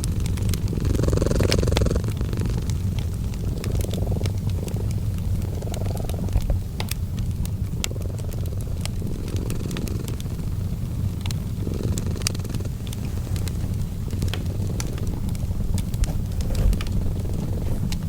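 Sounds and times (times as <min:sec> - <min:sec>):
cat purring: 0:00.0 - 0:18.0
fireplace fire crackling: 0:00.0 - 0:18.0.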